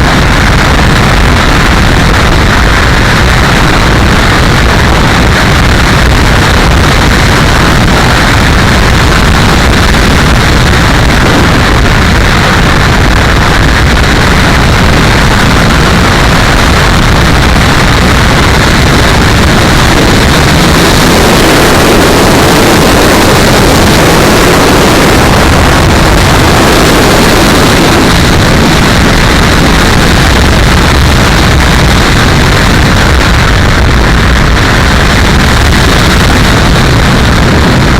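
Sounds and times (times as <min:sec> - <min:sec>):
propeller tone: 0:00.0 - 0:37.9
rc airplane rushing noise: 0:00.0 - 0:37.9.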